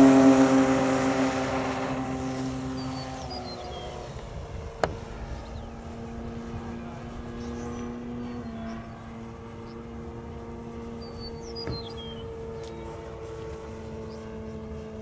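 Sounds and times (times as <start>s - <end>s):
electric motor and propeller humming: 0.0s - 15.0s.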